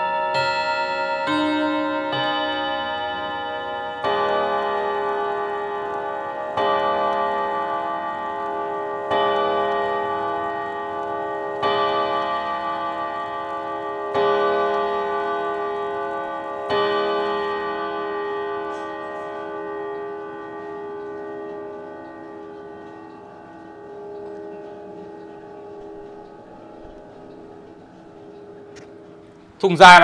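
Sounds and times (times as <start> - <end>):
clock chiming on gongs: 0.0 - 30.0.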